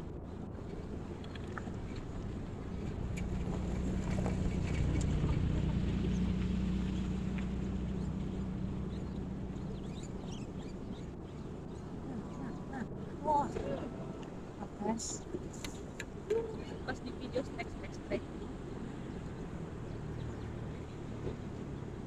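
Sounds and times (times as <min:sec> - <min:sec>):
motor engine passing by: 0:01.4 - 0:22.0.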